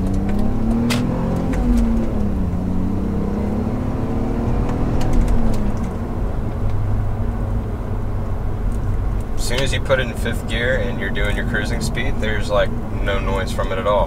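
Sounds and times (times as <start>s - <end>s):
car engine through loud exhaust: 0.0s - 14.0s
road rumble: 0.0s - 14.0s.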